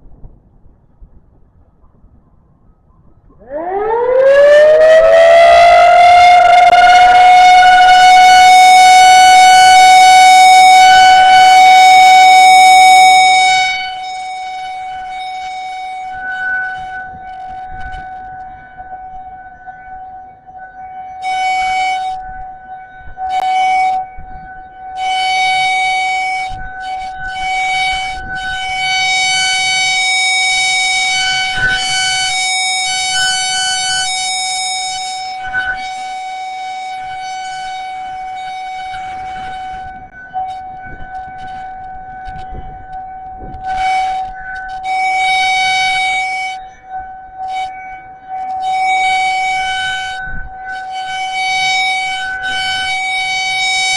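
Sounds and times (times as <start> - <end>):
rotating warning siren: 0.0 - 53.9.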